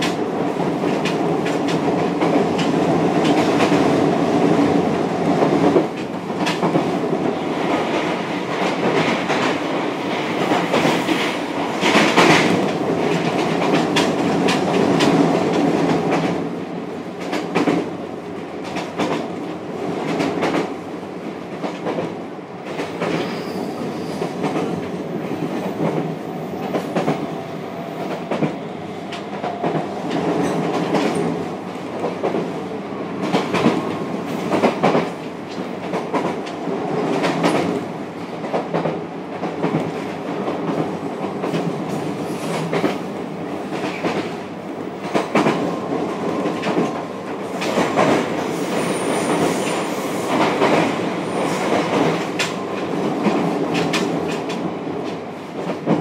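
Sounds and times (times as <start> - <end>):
train rolling noise: 0.0 - 56.0.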